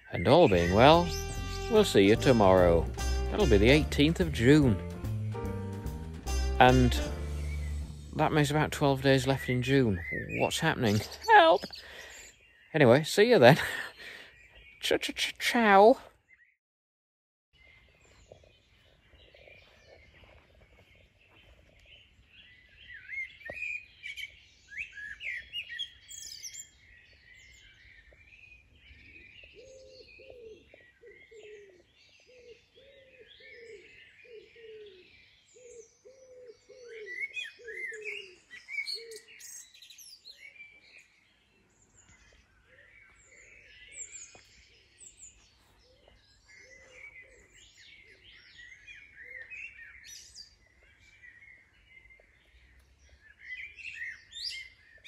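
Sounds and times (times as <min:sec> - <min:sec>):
small birds chirping: 0:00.0 - 0:16.6, 0:17.6 - 0:55.0.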